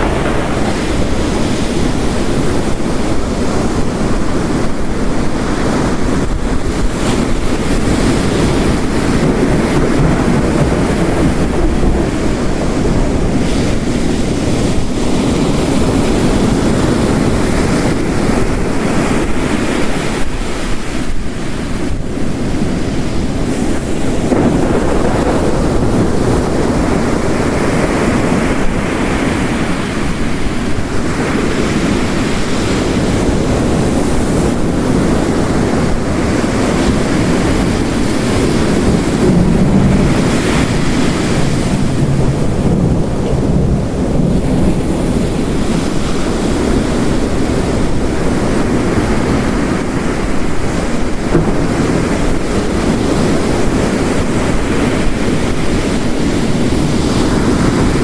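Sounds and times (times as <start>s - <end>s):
heavy rain hissing: 0.0s - 58.0s
ocean waves crashing on rocks: 0.0s - 58.0s.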